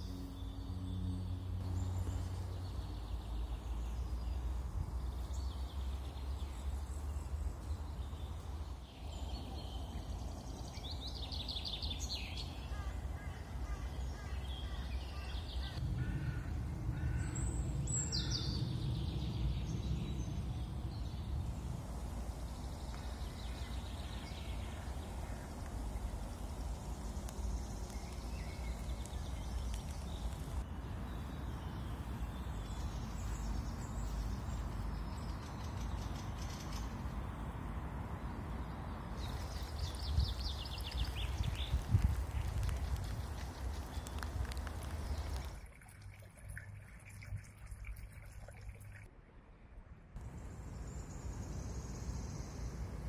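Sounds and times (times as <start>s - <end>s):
small birds chirping: 0.0s - 37.6s, 38.2s - 45.6s.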